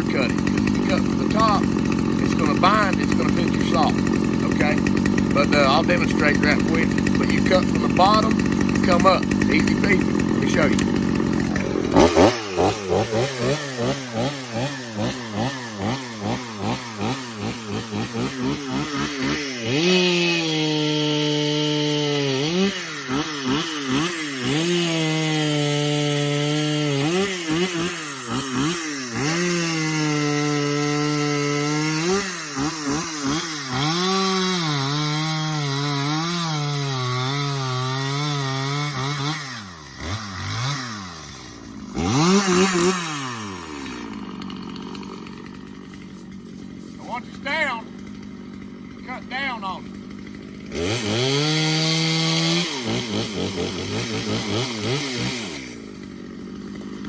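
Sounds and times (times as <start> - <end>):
chainsaw revving and cutting log: 0.0 - 57.0.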